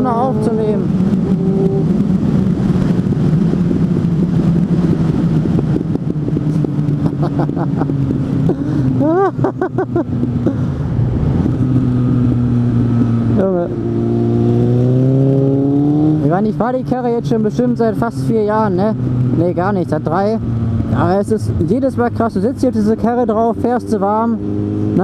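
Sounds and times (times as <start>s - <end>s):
motorcycle engine: 0.0s - 25.0s
wind noise: 0.0s - 25.0s.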